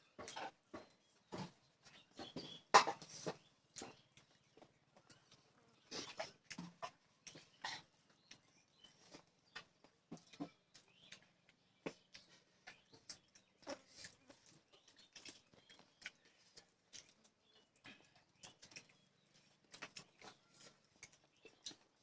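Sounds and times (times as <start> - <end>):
person chewing: 2.3 - 22.0.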